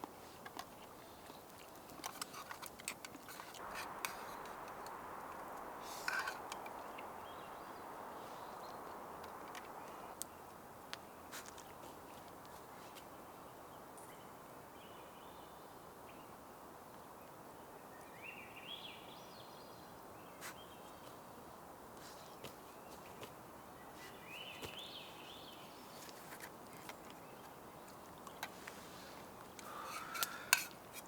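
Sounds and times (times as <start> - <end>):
faint background hiss: 0.0 - 31.0
songbird singing: 0.0 - 31.0.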